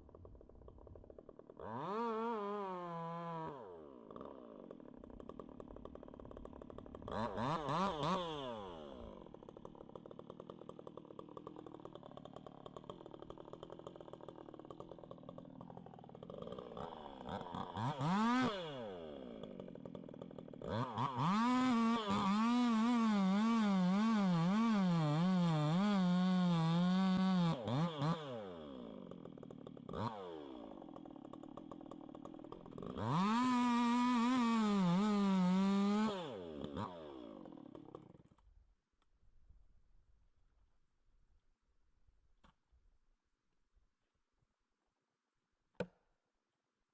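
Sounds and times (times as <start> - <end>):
chainsaw idling and revving: 0.0 - 38.4.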